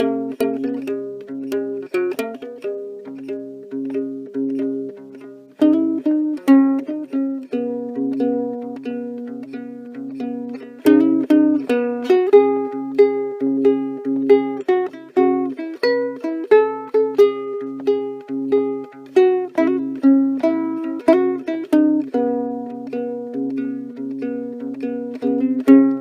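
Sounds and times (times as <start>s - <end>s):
ukulele music: 0.0s - 26.0s.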